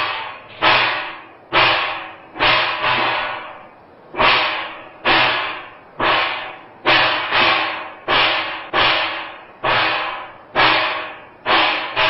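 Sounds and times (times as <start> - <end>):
cymbals crashing: 0.0 - 12.0.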